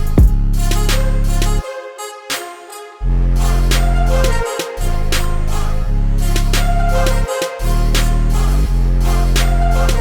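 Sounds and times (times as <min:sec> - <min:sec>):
sliding bass notes: 0:00.0 - 0:01.6, 0:03.0 - 0:10.0.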